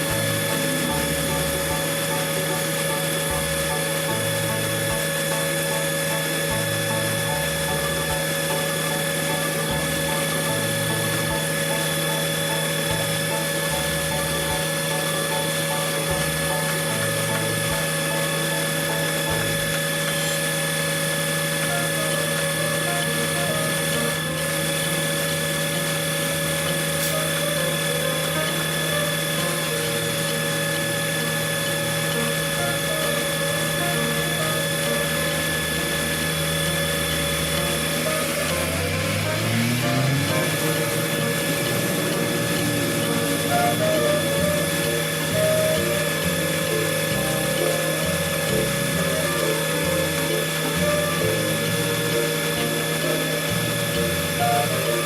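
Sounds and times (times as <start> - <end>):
heavy machinery engine droning: 0.0 - 55.0.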